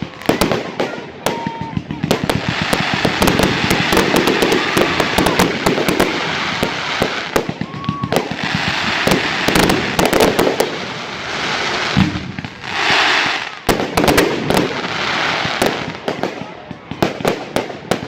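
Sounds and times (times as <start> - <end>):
firework whistle: 0.0 - 15.6
fireworks cracking and popping: 0.0 - 18.0.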